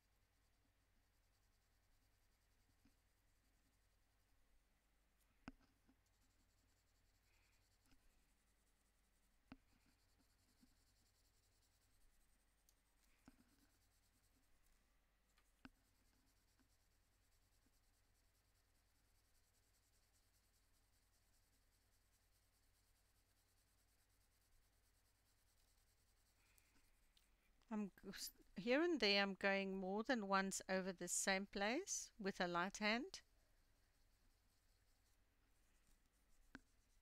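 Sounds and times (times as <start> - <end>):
pencil scratching on paper: 0.1 - 4.3, 5.5 - 27.2, 28.0 - 37.0.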